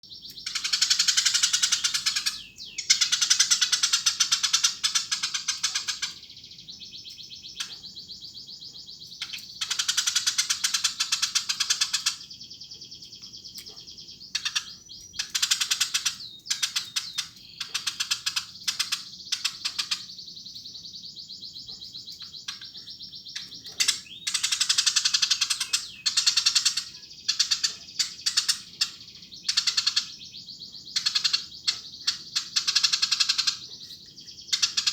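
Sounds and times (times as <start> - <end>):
sparrow chirping: 0.0 - 34.9.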